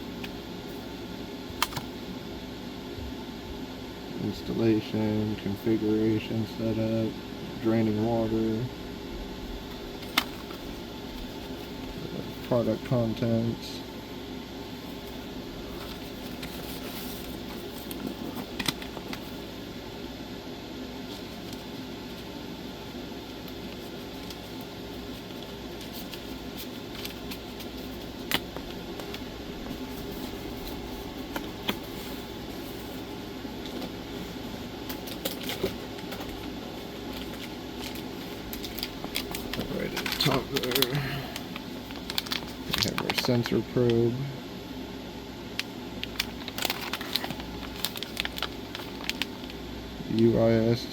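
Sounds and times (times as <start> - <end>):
fan humming: 0.0 - 50.9.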